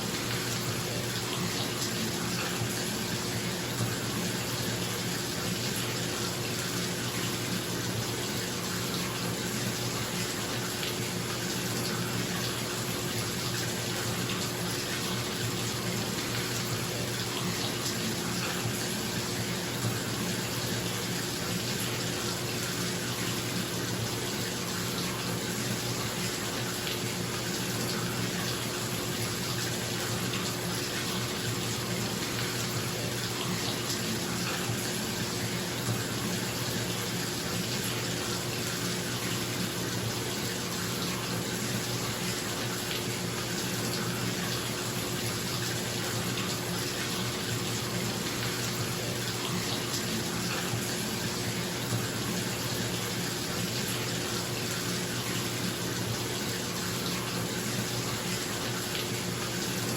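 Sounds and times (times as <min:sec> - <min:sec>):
tap water running into tub: 0:00.0 - 0:59.9.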